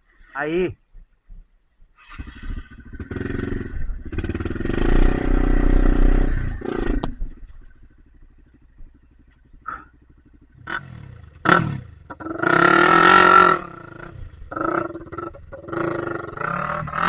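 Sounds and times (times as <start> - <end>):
dirt bike engine revving: 2.0 - 17.0.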